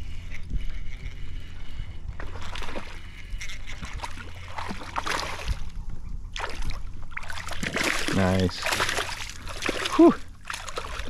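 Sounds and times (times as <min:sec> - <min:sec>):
low steady rumble: 0:00.0 - 0:11.0
water splashing and sloshing: 0:00.0 - 0:11.0.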